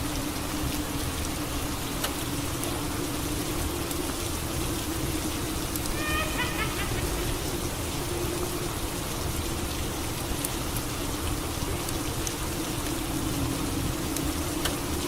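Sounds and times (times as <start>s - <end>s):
faint drip-like ticks: 0.0s - 15.0s
steady rain falling: 0.0s - 15.0s.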